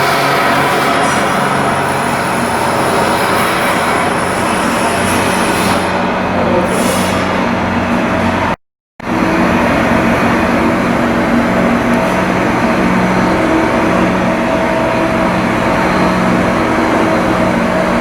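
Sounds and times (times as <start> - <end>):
loud machinery drone: 0.0 - 18.0.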